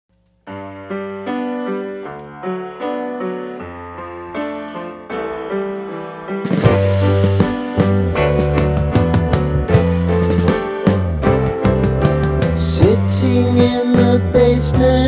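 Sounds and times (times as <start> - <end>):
piano melody: 0.4 - 15.0.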